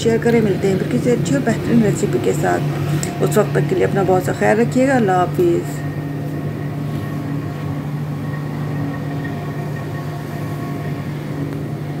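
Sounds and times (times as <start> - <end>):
machine hum with low drone: 0.0 - 12.0.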